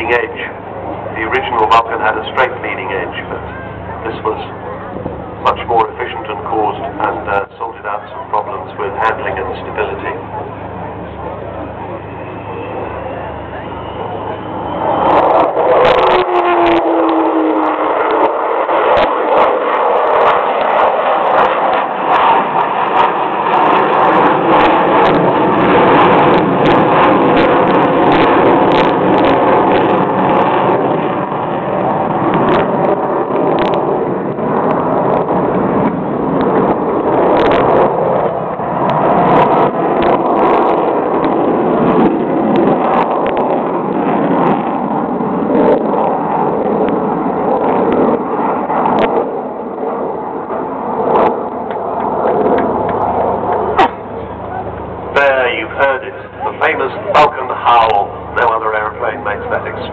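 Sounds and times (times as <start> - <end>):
jet engines howling: 0.0 - 59.9.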